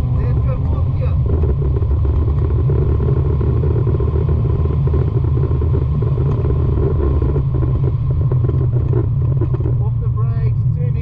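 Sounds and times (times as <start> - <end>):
car engine running: 0.0 - 11.0
road and tyre noise: 0.0 - 11.0.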